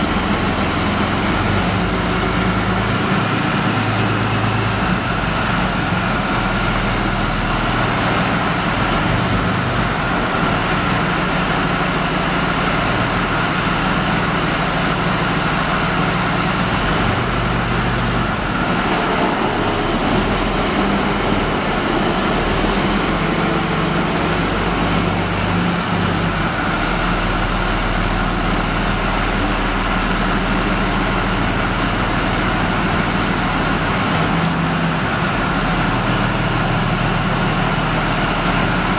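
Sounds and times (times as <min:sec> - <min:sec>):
tank diesel engine running: 0:00.0 - 0:38.9.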